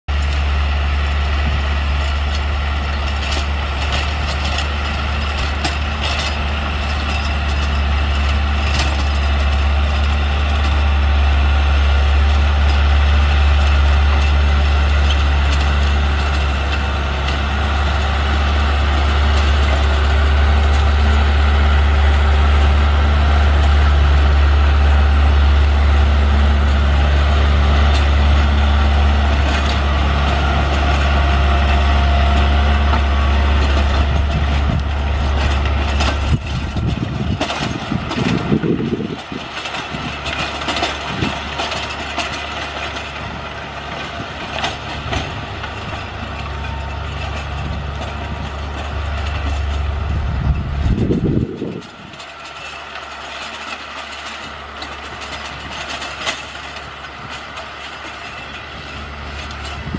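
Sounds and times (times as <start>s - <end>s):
tractor diesel engine humming: 0.0s - 59.9s.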